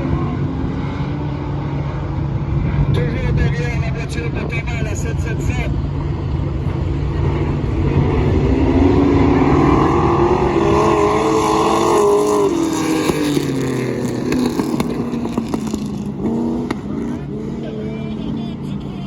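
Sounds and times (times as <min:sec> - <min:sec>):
race cars passing: 0:00.0 - 0:19.0.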